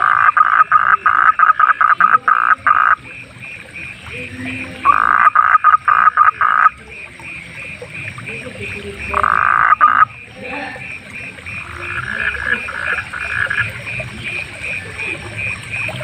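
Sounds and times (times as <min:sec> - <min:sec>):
frog calling in rapid pulses: 0:00.0 - 0:16.0
night creatures calling: 0:00.0 - 0:16.0.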